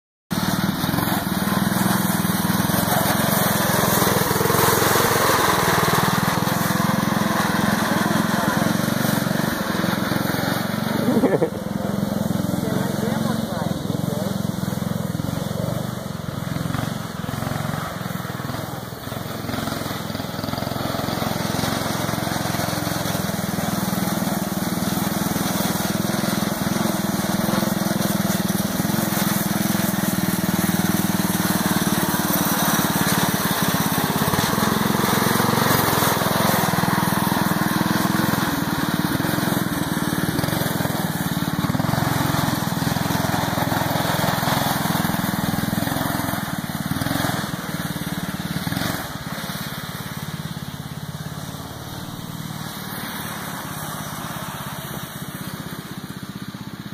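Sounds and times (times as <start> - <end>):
small engine running: 0.3 - 56.9.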